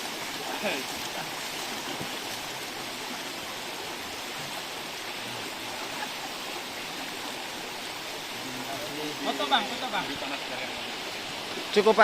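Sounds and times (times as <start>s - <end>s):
river water rushing over cascades: 0.0s - 12.0s.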